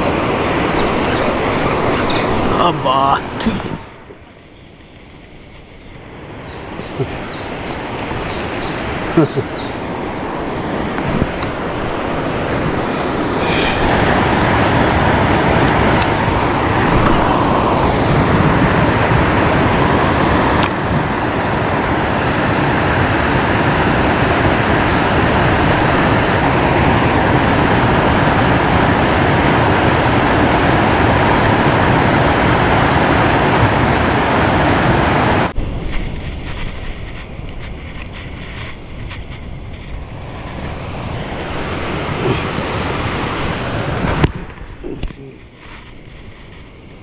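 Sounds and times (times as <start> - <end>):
water rushing over weir: 0.0 - 4.4, 5.2 - 35.6, 36.5 - 47.0.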